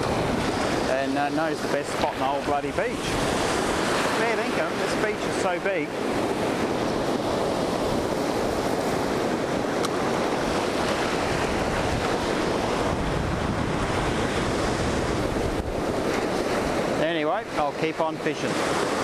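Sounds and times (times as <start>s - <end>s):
ocean surf rushing over sand: 0.0s - 19.0s
wind buffeting microphone: 0.0s - 19.0s.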